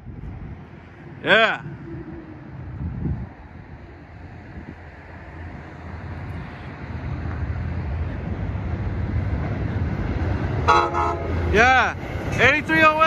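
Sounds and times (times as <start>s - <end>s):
approaching train rumble: 0.0s - 13.0s.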